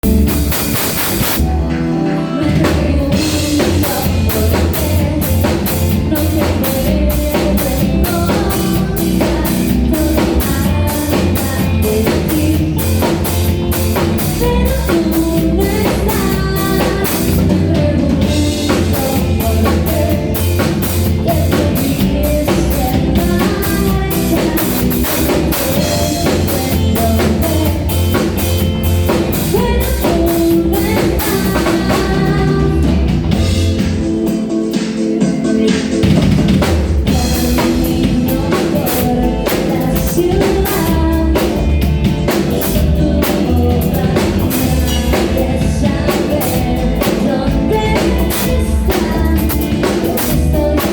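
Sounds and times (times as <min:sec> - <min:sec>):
rock band playing: 0:00.0 - 0:50.9.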